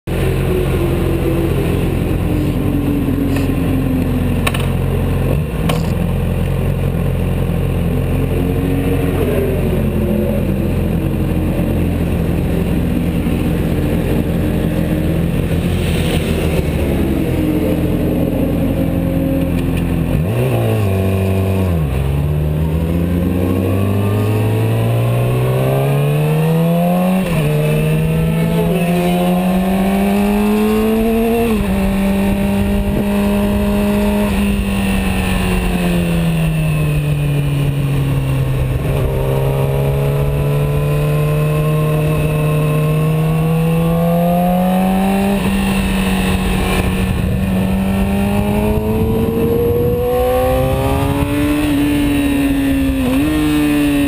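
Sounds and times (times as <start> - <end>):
motorcycle accelerating: 0.0 - 54.0.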